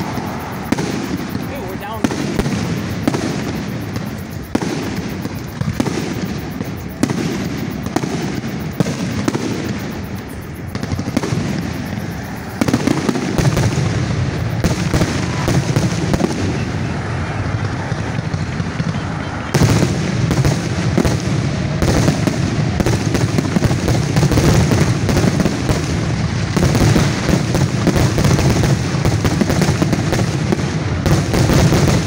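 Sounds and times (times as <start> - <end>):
fireworks bursting: 0.0 - 32.0
fireworks crackling: 0.0 - 32.0.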